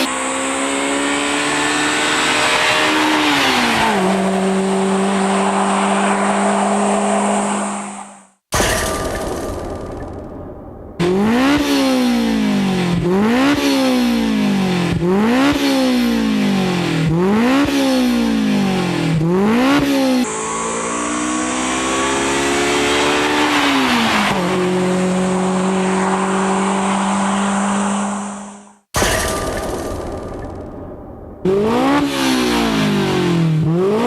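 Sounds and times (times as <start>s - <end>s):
car engine pulling: 0.0s - 8.2s, 9.0s - 28.7s, 29.4s - 34.0s
car engine revving: 0.0s - 8.2s, 9.3s - 28.7s, 29.8s - 34.0s.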